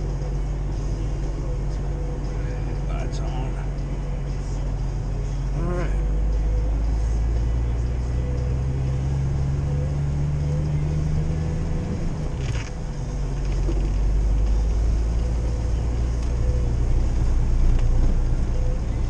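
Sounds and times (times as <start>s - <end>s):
car engine droning in cabin: 0.0s - 19.0s.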